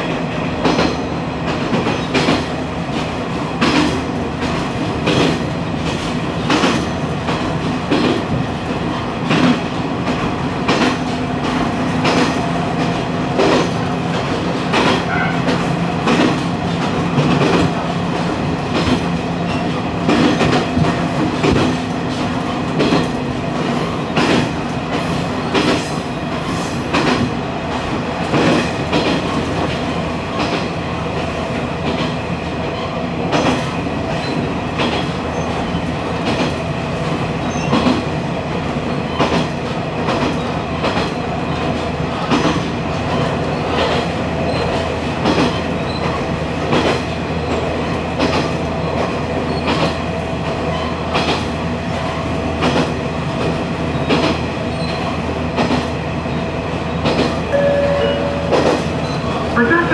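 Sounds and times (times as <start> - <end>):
train wheels clicking over rail joints: 0.0 - 57.6.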